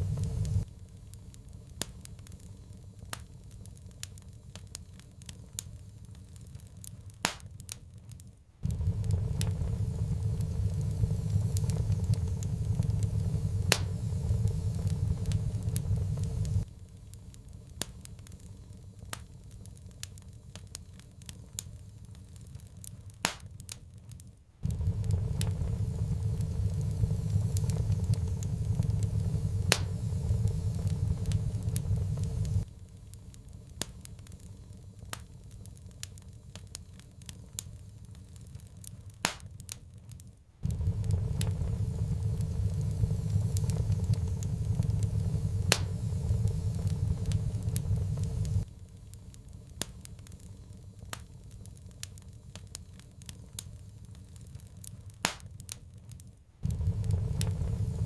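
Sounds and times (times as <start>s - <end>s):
low rumble of fire: 0.0s - 58.0s
wood fire crackling and popping: 0.0s - 58.0s.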